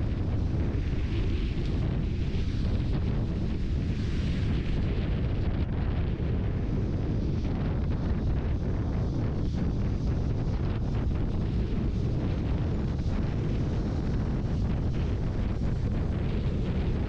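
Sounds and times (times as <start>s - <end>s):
wind and road noise: 0.0s - 17.0s
wind buffeting microphone: 0.0s - 17.0s.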